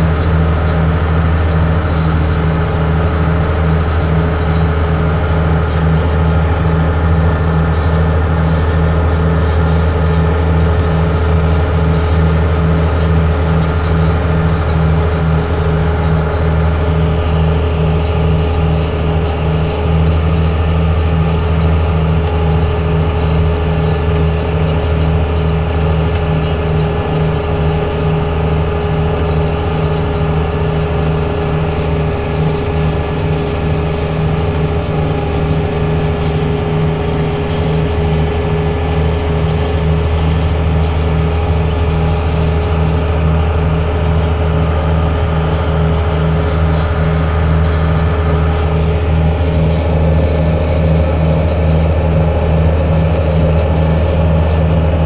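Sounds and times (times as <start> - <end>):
harvester machinery pulsing: 0.0 - 55.0
tractor engine drone: 0.0 - 55.0.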